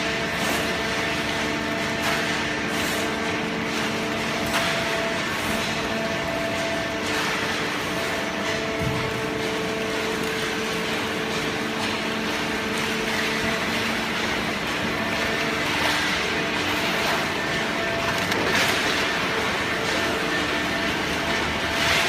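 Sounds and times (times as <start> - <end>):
baler machine hum and hiss: 0.0 - 22.0
motor and pump tones: 0.0 - 22.0.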